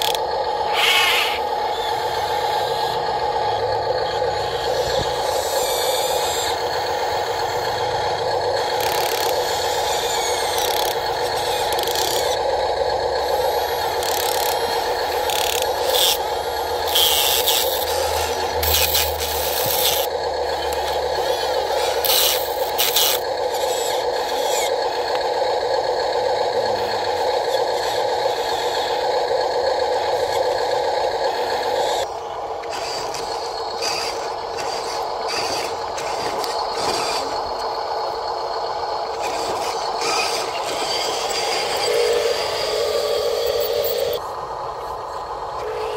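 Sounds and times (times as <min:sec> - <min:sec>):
small electric motors whining: 0:00.0 - 0:45.9.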